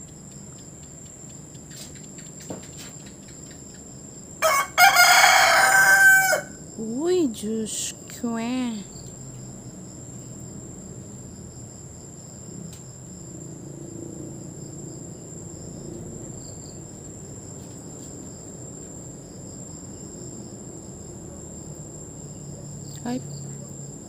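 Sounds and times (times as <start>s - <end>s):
insects trilling: 0.0s - 24.0s
low outdoor hum: 0.0s - 24.0s
pulsing insect chirp: 0.0s - 24.0s.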